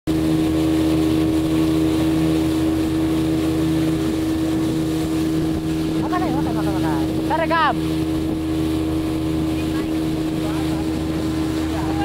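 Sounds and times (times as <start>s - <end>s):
motorboat engine droning: 0.1s - 12.0s
water rushing: 0.1s - 12.0s.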